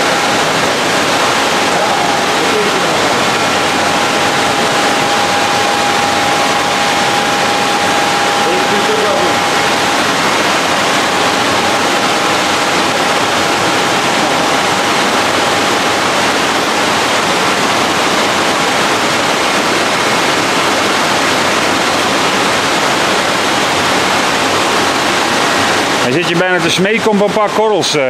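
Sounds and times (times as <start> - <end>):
faint steady whine: 0.0 - 28.0
water rushing in a tank: 0.0 - 28.0.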